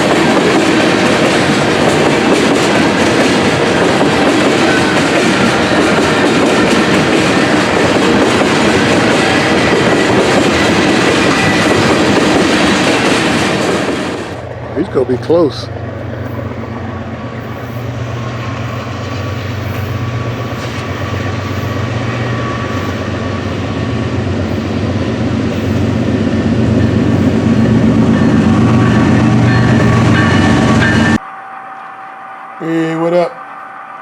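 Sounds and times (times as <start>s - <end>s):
train engine drone: 0.0s - 34.0s
train wheel and rail noise: 0.0s - 34.0s.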